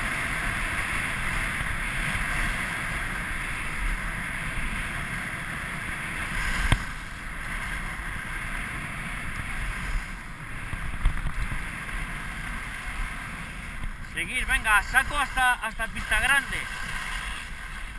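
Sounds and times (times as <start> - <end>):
skis sliding over snow: 0.0 - 17.9.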